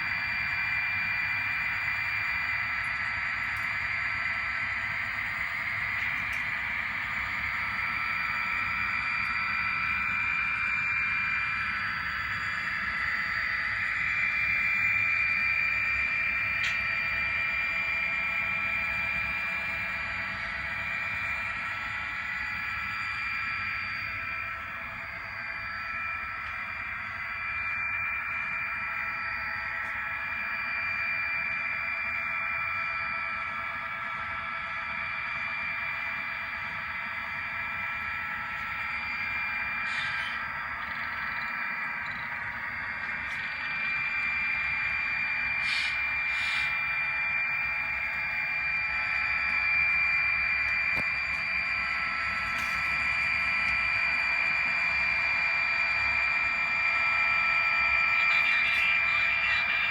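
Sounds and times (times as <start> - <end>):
model train electric whine: 0.0 - 59.9.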